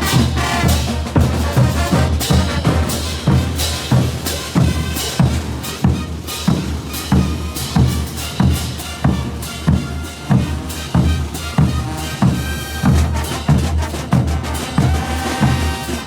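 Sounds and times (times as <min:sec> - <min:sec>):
heavy drum beat: 0:00.0 - 0:16.0
sustained brass: 0:00.0 - 0:16.0.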